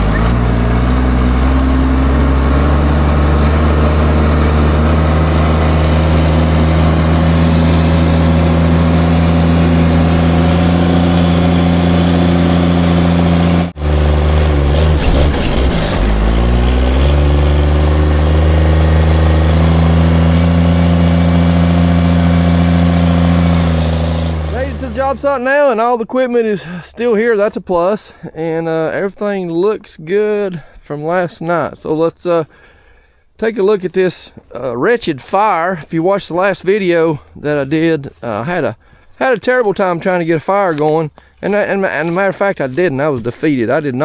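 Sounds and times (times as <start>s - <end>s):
truck engine running: 0.0s - 25.9s, 34.2s - 44.0s.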